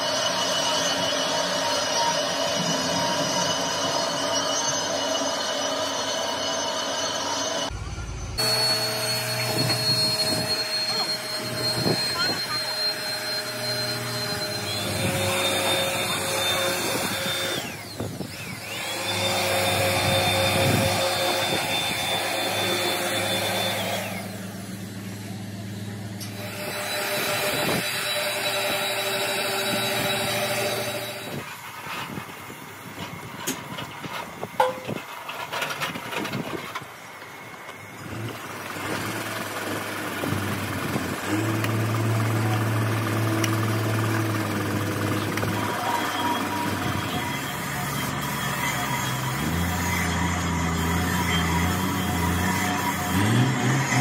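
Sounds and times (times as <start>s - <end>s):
electric blower whine: 0.0s - 54.0s.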